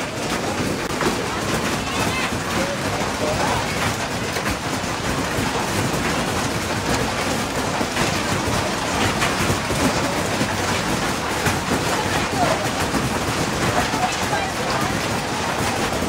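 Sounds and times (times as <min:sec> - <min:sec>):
hailstones ticking on ground: 0:00.0 - 0:16.0
heavy hail and rain: 0:00.0 - 0:16.0.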